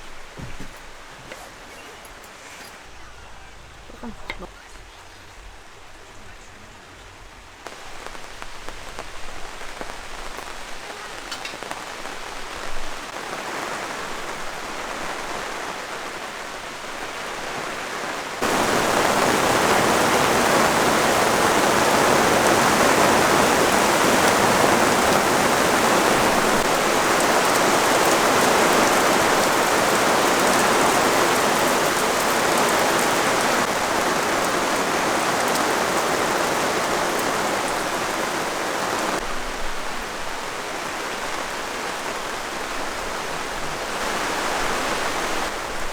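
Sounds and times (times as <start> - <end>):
heavy rain pattering: 0.0 - 45.9.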